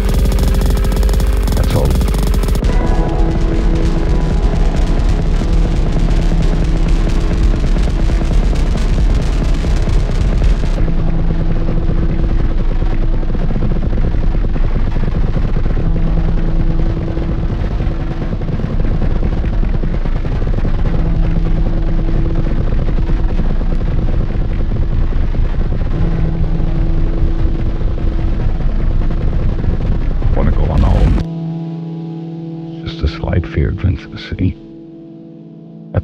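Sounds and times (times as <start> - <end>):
crackling noise texture: 0.0 - 36.0
deep drone: 0.0 - 36.0
held low note: 0.0 - 36.0.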